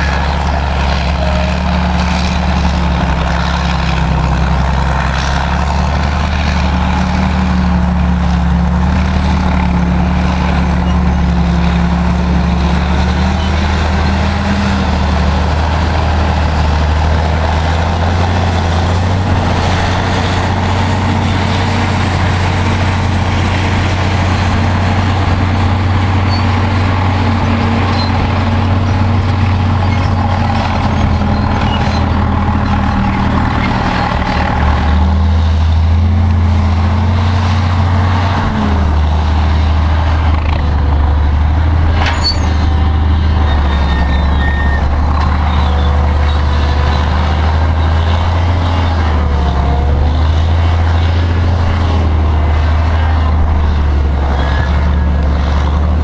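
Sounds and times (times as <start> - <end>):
heavy diesel engines droning: 0.0 - 56.0.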